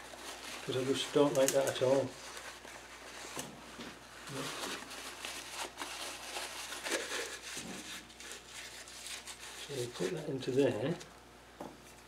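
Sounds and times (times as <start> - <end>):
paper towel crinkling: 0.0 - 11.0.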